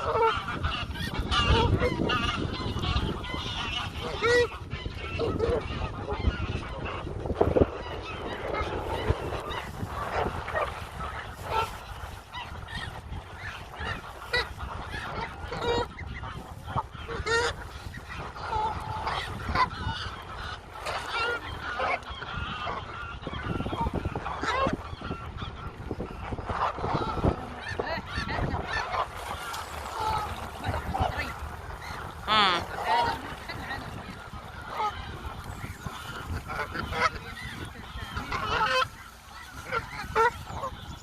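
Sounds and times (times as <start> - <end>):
geese honking: 0.0 - 41.0.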